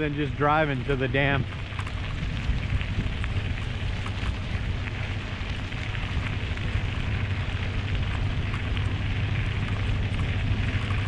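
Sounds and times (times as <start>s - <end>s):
tyres rolling over gravel: 0.0s - 11.0s
wind buffeting microphone: 0.0s - 11.0s.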